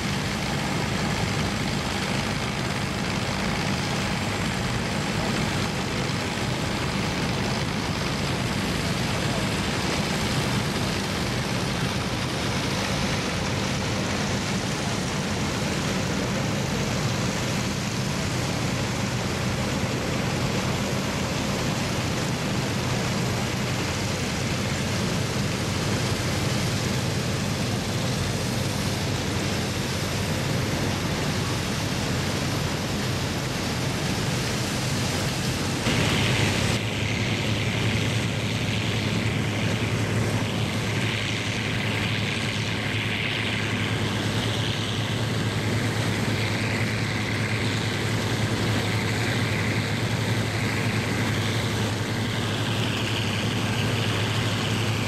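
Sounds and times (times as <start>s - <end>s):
threshing machinery noise: 0.0s - 55.0s
tractor engine drone: 0.0s - 55.0s.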